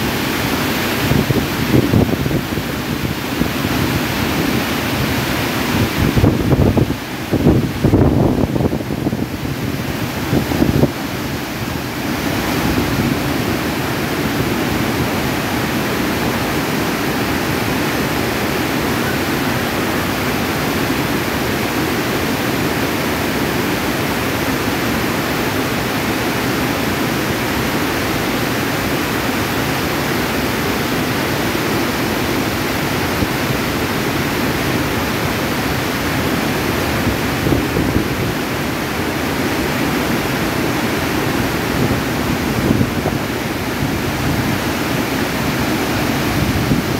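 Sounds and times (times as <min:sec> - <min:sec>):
river rushing over boulders: 0:00.0 - 0:46.9.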